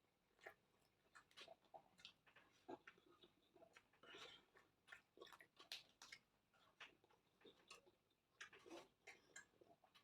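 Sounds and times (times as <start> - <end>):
faint chewing with mouth clicks: 0.0 - 10.0.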